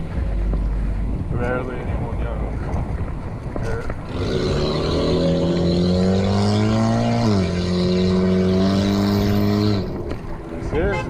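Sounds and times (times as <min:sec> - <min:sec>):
vehicle engine accelerating: 0:00.0 - 0:10.8.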